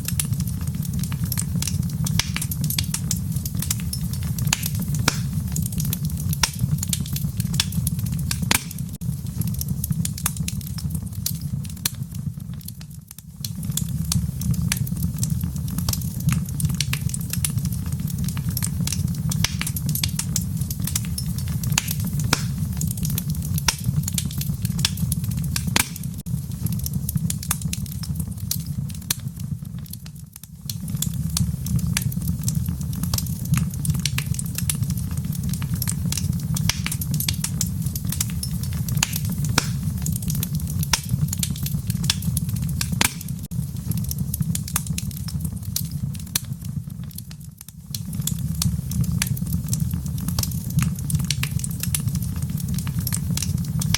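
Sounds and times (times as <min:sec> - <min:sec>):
low rumble of flames: 0:00.0 - 0:53.9
pops and snaps of fire: 0:00.0 - 0:53.9
wood fire crackling: 0:00.0 - 0:53.9.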